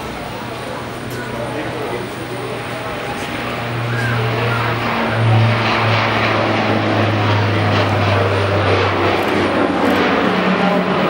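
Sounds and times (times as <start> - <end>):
propeller hum: 0.0 - 11.0
wide rushing noise: 1.6 - 11.0.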